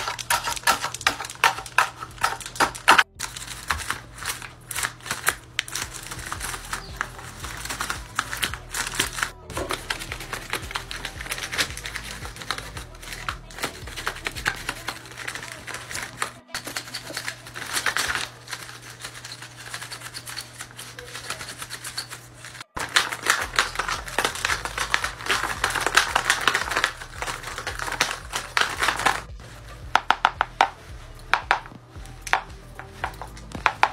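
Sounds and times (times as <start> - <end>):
paper jaws snapping: 0.0 - 29.3.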